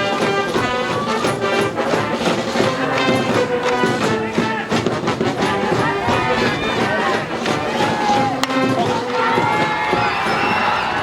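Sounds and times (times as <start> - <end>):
brass band playing cheering tune: 0.0 - 11.0
steady drum beat: 0.0 - 11.0.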